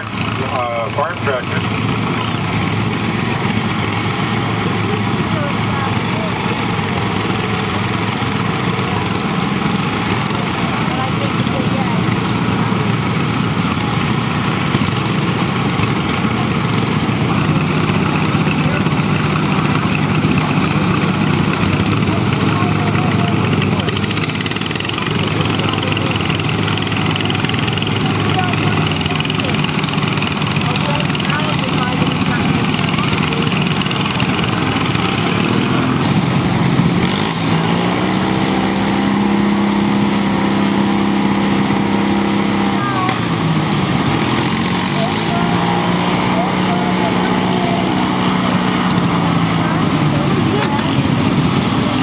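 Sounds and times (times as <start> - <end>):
garden tractor engine running: 0.0 - 52.0.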